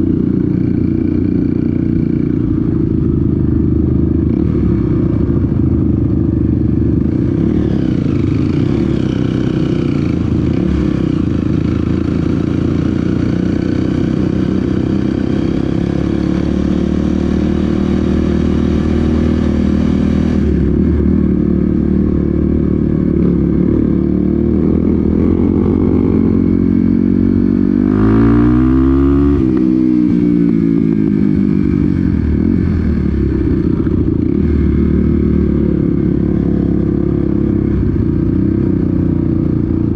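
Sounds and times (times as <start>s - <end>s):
off-road motorcycle engine: 0.0s - 39.9s.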